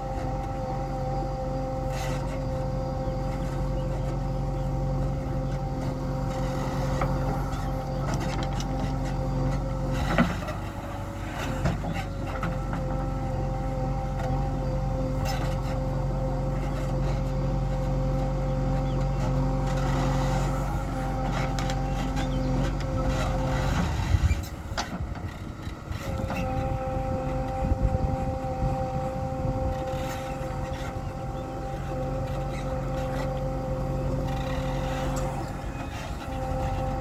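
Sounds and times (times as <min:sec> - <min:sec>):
diesel machinery running: 0:00.0 - 0:37.0.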